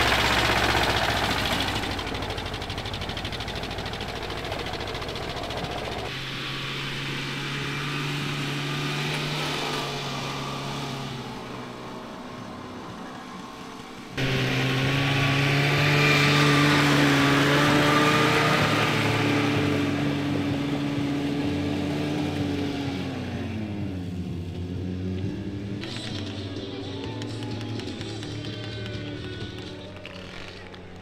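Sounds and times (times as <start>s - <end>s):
tractor engine working hard: 0.0s - 31.0s.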